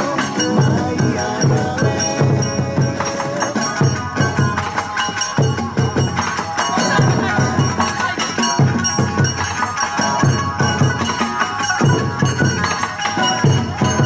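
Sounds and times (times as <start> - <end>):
dance music with percussion: 0.0 - 14.0.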